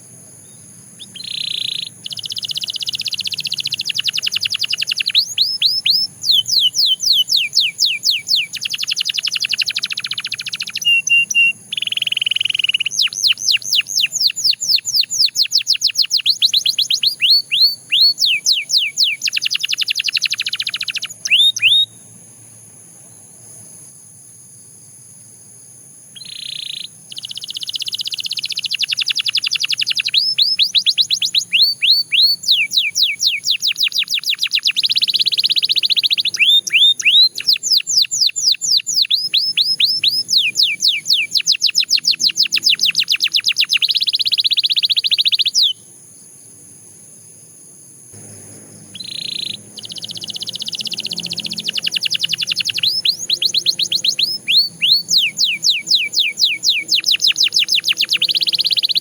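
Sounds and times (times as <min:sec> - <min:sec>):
canary singing: 0:00.0 - 0:22.1, 0:26.1 - 0:45.9, 0:48.2 - 0:59.0.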